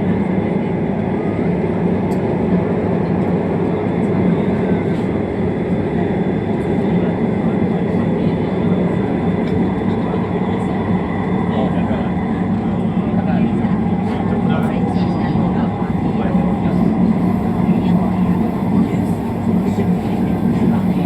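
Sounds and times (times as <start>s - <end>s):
train carriage rumble: 0.0s - 21.0s.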